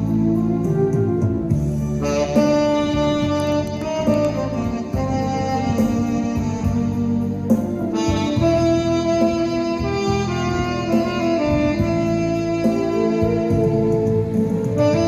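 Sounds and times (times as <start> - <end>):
instrumental accompaniment: 0.0 - 15.0
saxophone melody: 0.0 - 15.0.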